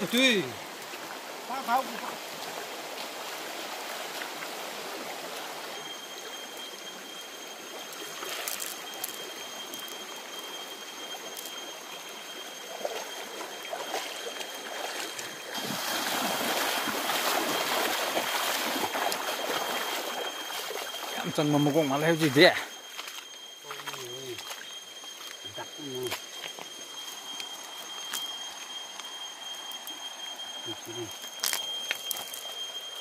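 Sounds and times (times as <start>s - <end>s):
stream running over stones: 0.0s - 33.0s
thin steady high tone: 0.0s - 33.0s.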